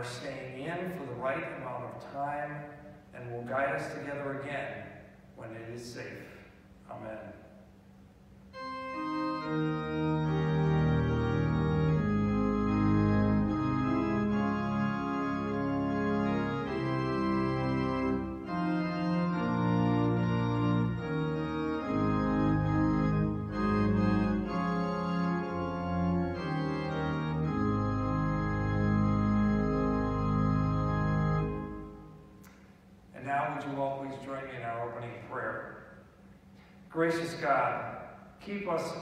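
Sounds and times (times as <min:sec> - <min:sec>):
organ playing slow chords: 0:00.0 - 0:39.0.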